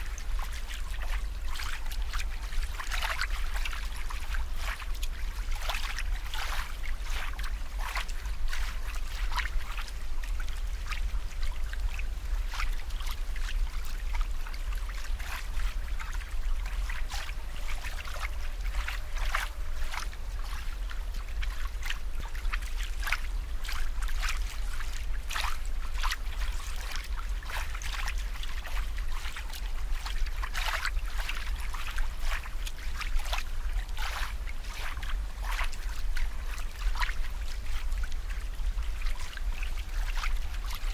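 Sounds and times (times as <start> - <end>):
steady low hum: 0.0 - 40.9
water trickling and dripping: 0.0 - 40.9.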